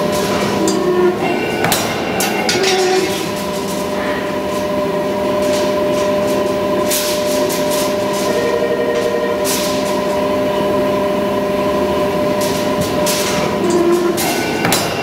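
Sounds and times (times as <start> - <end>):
spring coiling machine hum: 0.0 - 15.0.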